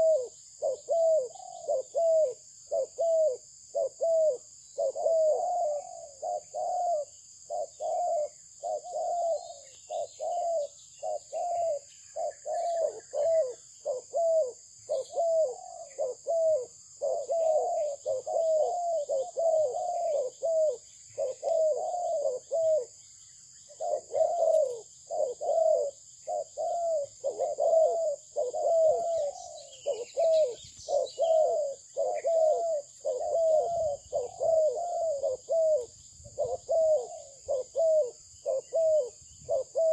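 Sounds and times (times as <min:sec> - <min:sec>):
dove cooing: 0:00.0 - 0:23.0, 0:23.6 - 0:39.9.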